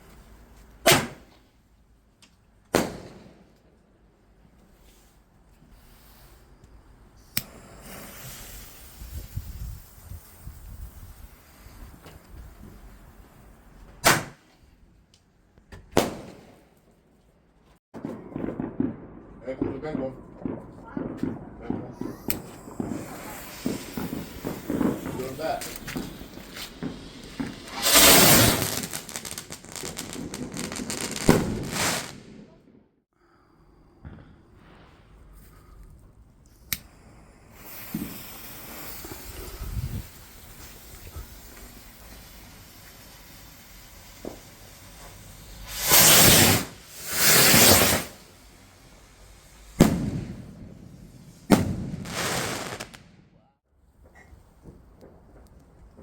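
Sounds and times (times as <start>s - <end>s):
fireworks bursting: 0.0s - 1.4s, 2.7s - 3.8s, 5.8s - 14.6s, 15.8s - 17.0s, 18.0s - 32.9s, 36.6s - 56.0s
fireworks crackling: 2.7s - 3.8s, 4.8s - 14.6s, 15.8s - 17.0s, 18.0s - 32.7s, 34.0s - 56.0s.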